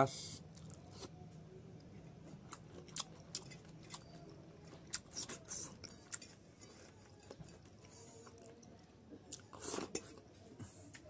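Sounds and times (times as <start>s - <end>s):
close-up chewing: 0.5s - 1.1s, 1.8s - 10.2s.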